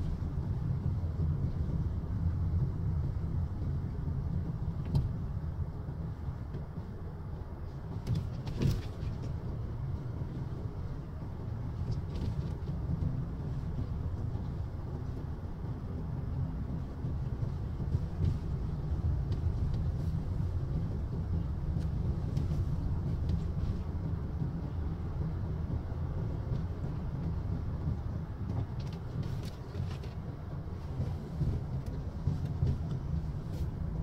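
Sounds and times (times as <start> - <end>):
engine and road noise inside vehicle: 0.0 - 34.0.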